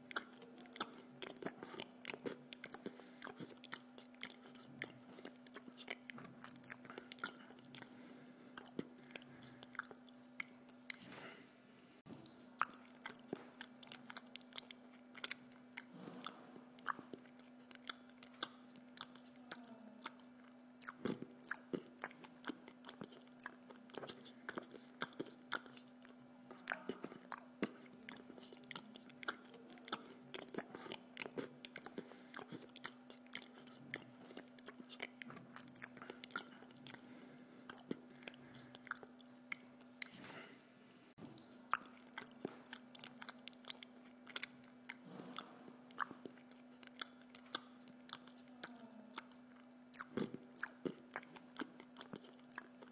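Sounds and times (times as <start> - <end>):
person chewing food: 0.0 - 52.9
steady low hum: 0.0 - 52.9.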